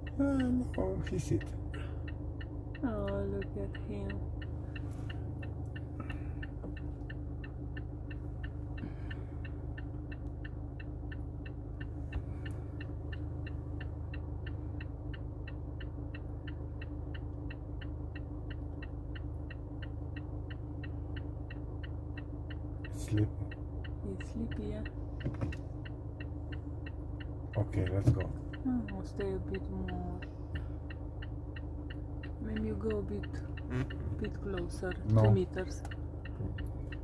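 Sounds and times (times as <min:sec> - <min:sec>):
car engine idling: 0:00.0 - 0:37.0
indicator relay ticking: 0:00.0 - 0:37.0.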